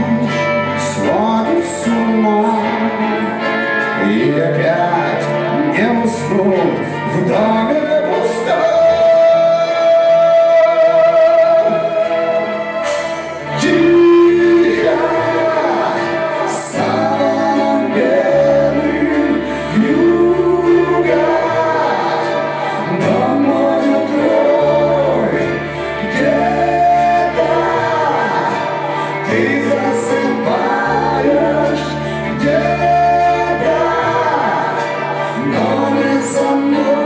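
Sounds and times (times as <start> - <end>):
backing voices singing together: 0.0 - 37.0
live band playing pop ballad: 0.0 - 37.0
singers holding long notes: 0.0 - 37.0.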